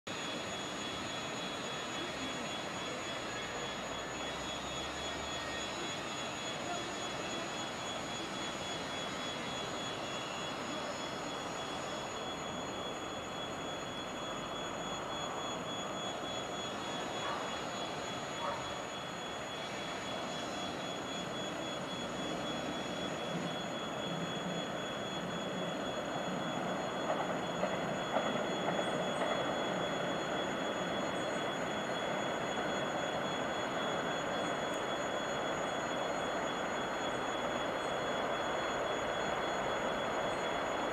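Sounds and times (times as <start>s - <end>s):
distant diesel locomotive drone: 0.1s - 40.9s.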